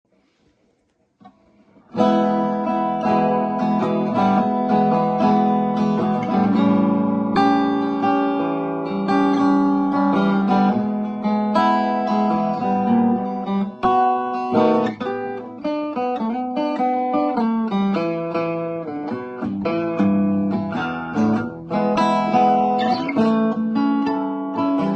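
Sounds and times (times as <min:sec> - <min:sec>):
archtop guitar strumming chords: 0:01.8 - 0:24.9.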